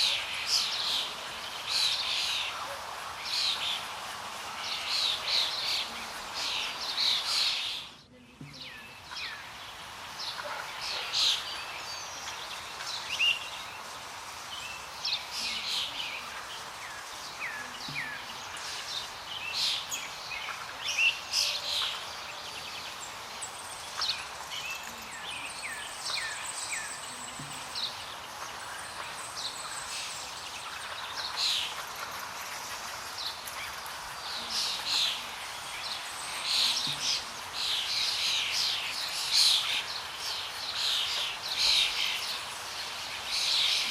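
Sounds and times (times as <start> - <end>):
birds chirping: 0.0 - 43.9
steady background hiss: 0.0 - 43.9.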